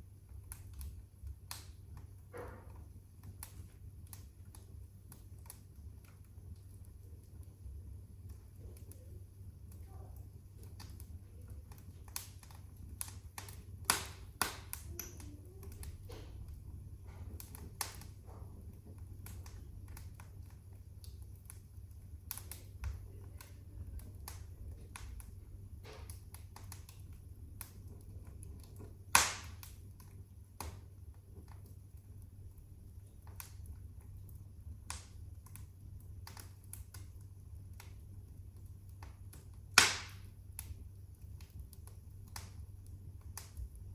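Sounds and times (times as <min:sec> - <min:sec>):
low fire rumble: 0:00.0 - 0:43.9
wood fire crackling: 0:00.0 - 0:43.9
loud fire pops: 0:00.2 - 0:07.1, 0:10.5 - 0:43.9.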